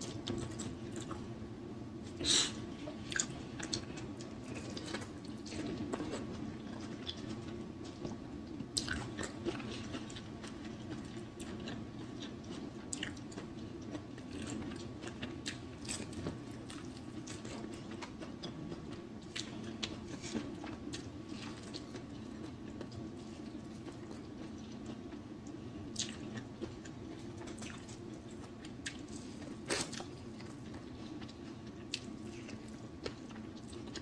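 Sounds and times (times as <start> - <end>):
close chewing with mouth sounds: 0.0 - 1.3, 2.1 - 34.0.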